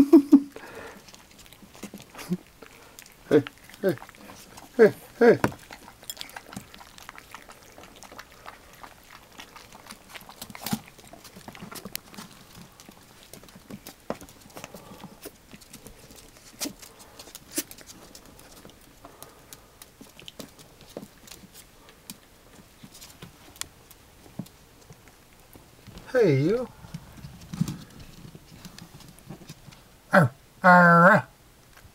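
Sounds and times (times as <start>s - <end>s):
puppies crunching dry kibble: 0.4s - 30.1s.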